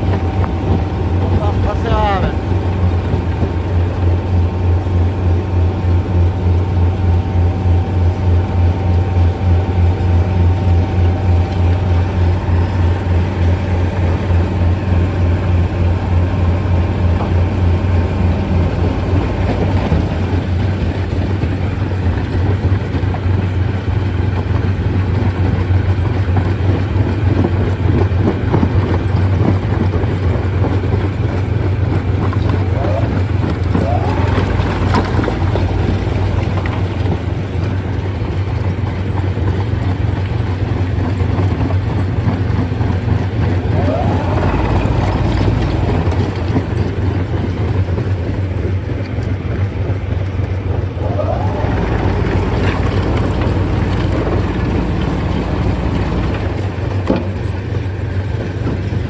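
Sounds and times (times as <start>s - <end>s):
stone crusher pulsing hum: 0.0s - 49.2s, 50.9s - 59.0s
rough rumble: 0.0s - 59.0s.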